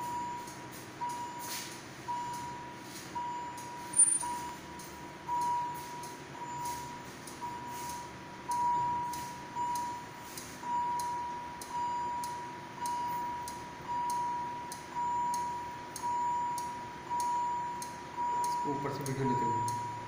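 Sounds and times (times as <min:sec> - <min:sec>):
high electronic alarm tone: 0:00.0 - 0:20.0.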